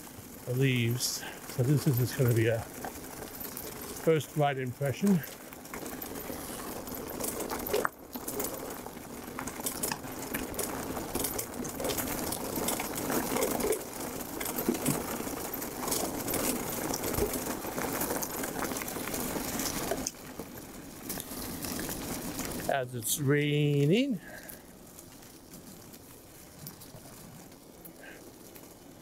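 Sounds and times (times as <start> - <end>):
bike clicking and rattling: 0.0 - 29.0
bike tyres on wet trail: 0.0 - 29.0.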